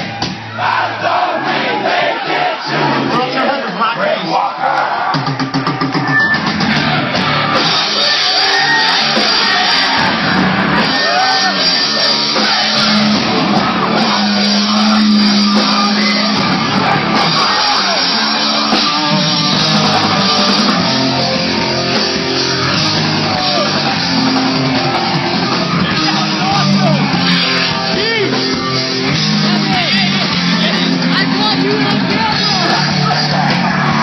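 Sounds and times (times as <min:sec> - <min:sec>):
drums: 0:00.0 - 0:34.0
distorted electric guitars: 0:05.0 - 0:34.0
shouted vocals: 0:06.0 - 0:34.0.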